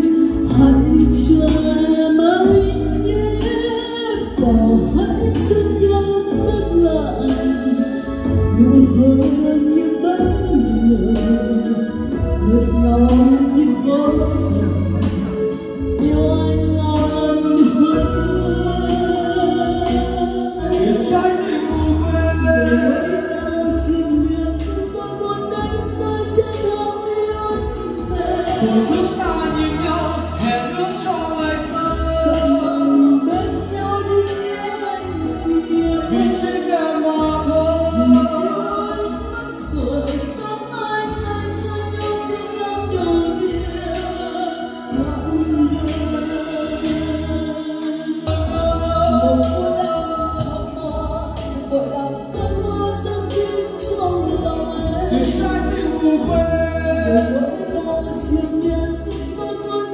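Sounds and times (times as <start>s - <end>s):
karaoke backing track over speakers: 0.0s - 59.9s
woman singing into microphone: 0.0s - 59.9s.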